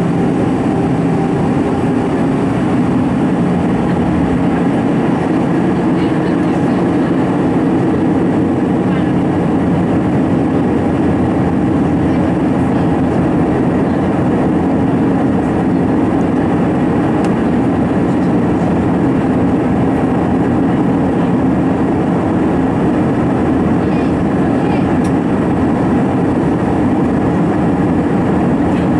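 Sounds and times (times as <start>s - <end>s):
airplane cabin engine rush: 0.0s - 28.9s.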